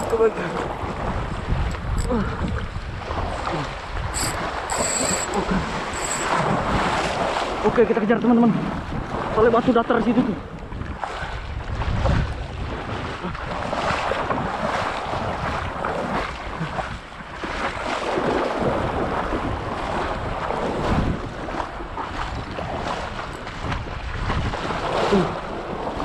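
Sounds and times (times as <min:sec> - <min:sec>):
surf washing on shore: 0:00.0 - 0:26.0
wind buffeting microphone: 0:00.0 - 0:26.0.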